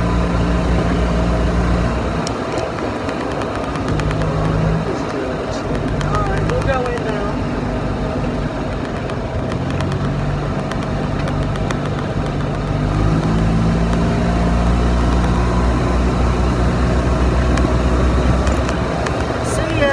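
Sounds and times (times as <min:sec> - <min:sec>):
golf cart motor hum: 0:00.0 - 0:19.9
rolling and wind noise: 0:00.0 - 0:19.9.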